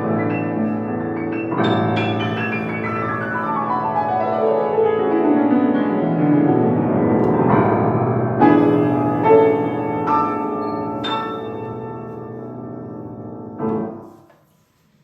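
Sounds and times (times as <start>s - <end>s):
solo piano playing: 0.0s - 14.2s.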